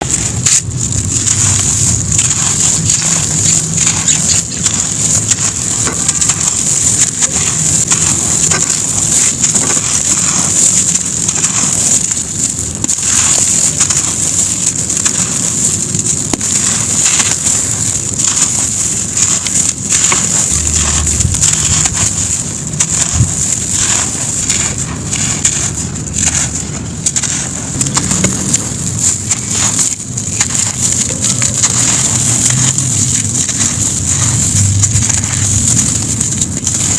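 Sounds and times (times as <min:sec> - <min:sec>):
sand-cement chunks crumbling: 0:00.0 - 0:36.9.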